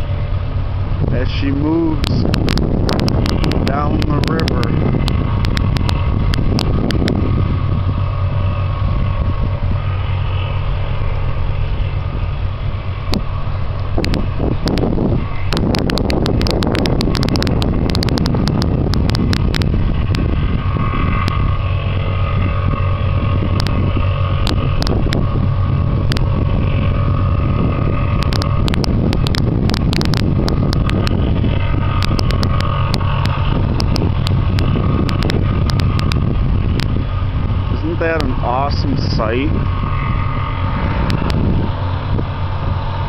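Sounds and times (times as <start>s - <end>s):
low engine drone: 0.0s - 43.0s
wind buffeting microphone: 0.0s - 43.0s.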